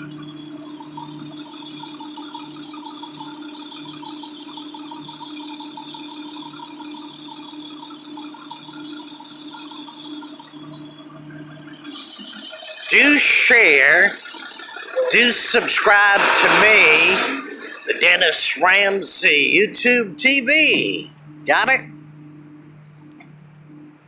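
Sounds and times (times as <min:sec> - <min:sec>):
continuous rattle: 0:00.0 - 0:20.0
garbage truck engine running: 0:00.0 - 0:24.0.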